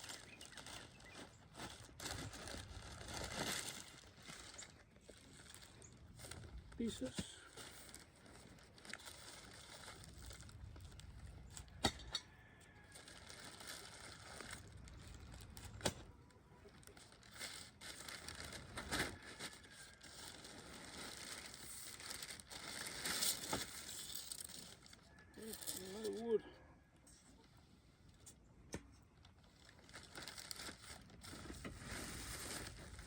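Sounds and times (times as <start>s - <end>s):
packaging rustling and crinkling: 0.0s - 26.2s, 29.2s - 33.0s.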